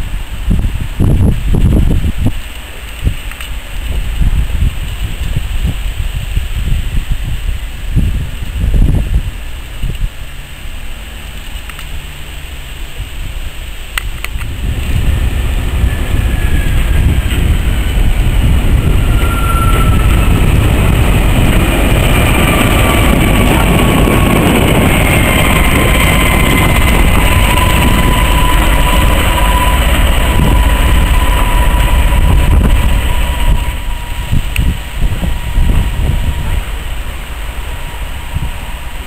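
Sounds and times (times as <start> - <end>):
diesel locomotive engine whine: 0.0 - 39.0
wheels rumbling on rails: 0.0 - 39.0.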